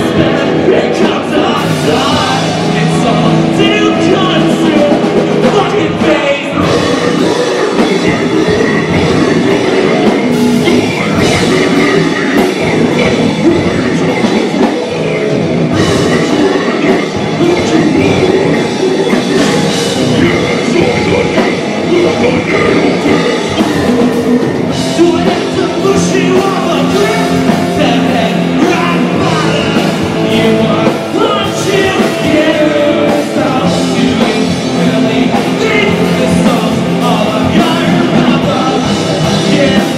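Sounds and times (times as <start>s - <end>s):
heavy rock band playing: 0.0s - 39.9s
person singing into microphone: 0.0s - 39.9s.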